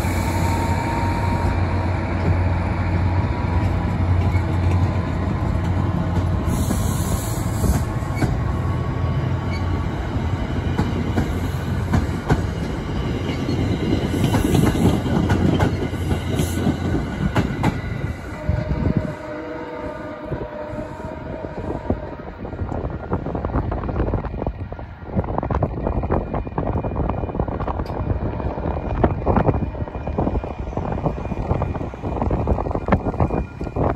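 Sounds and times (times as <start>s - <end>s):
diesel locomotive drone: 0.0s - 33.9s
train coaches rumbling past: 0.0s - 33.9s.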